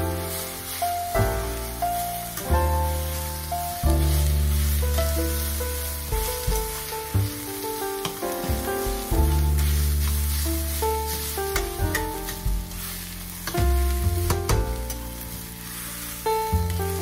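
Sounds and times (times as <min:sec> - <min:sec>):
background music with bass line: 0:00.0 - 0:17.0
fried rice sizzling in a pan: 0:00.0 - 0:17.0.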